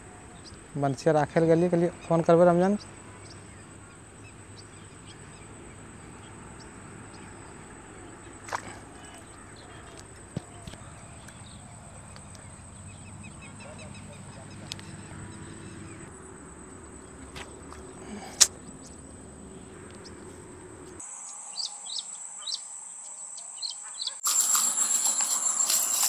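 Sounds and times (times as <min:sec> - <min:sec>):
birds chirping: 0:00.0 - 0:26.0
high insect drone: 0:00.0 - 0:26.0.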